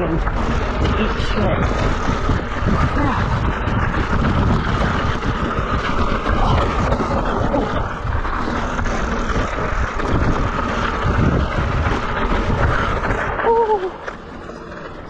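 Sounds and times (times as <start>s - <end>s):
bike tyres rolling over rock: 0.0s - 15.0s
low rumble: 0.0s - 15.0s.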